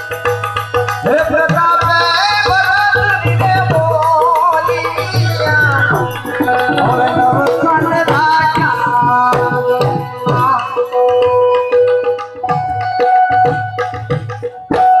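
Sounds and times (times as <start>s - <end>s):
tabla drumming: 0.0s - 15.0s
held instrumental notes: 0.2s - 15.0s.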